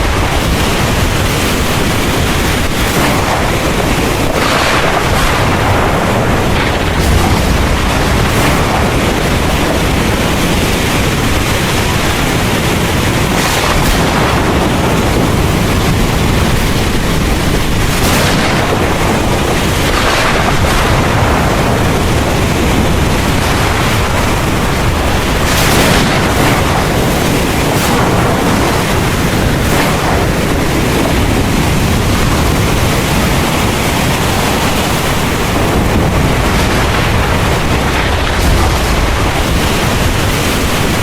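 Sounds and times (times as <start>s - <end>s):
heavy rain pouring: 0.0s - 41.0s
low rumble of thunder: 0.0s - 41.0s.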